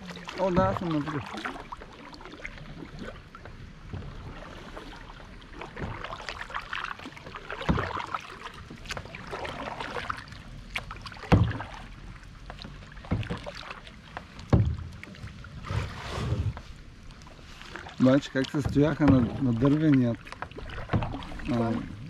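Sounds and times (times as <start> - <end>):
paddles splashing water: 0.0 - 22.0.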